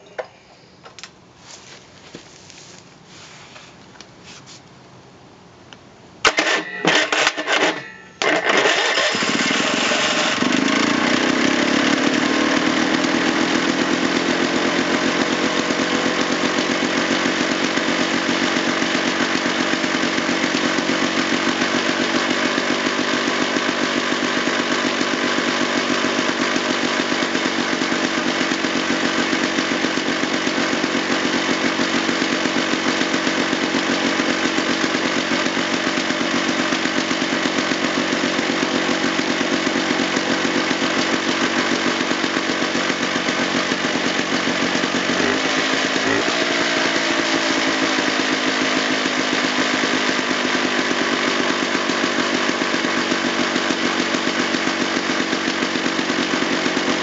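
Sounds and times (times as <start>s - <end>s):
two-stroke engine starting: 6.2s - 57.0s.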